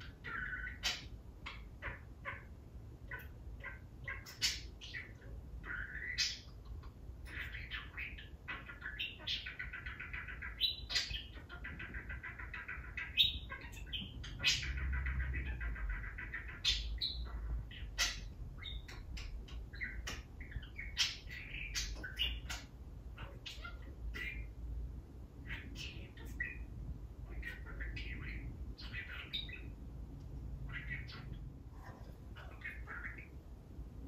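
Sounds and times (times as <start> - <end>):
budgerigar chattering and warbling: 0.0 - 24.6, 25.4 - 29.8, 30.6 - 33.4.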